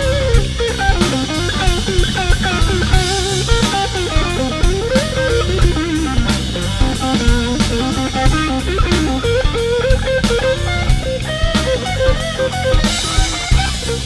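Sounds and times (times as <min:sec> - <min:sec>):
bass guitar: 0:00.0 - 0:14.0
drum kit: 0:00.0 - 0:14.0
electric guitar lead with bends: 0:00.0 - 0:14.0.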